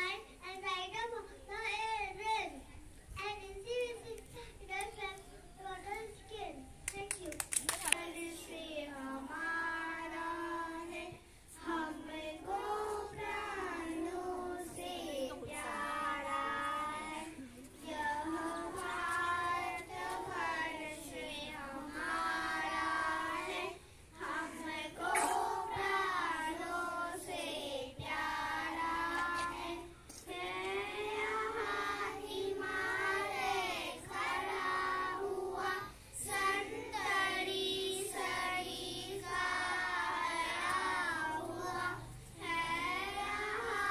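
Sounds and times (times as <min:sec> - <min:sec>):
children singing together: 0:08.0 - 0:43.9.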